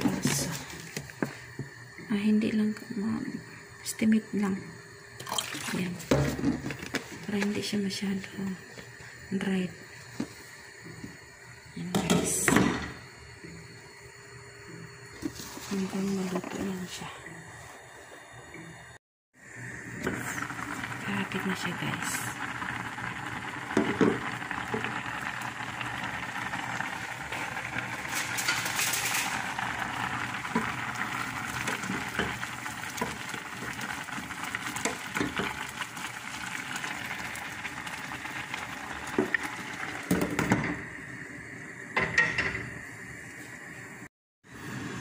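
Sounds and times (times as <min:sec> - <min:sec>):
rice boiling in a pot: 0:00.0 - 0:45.0.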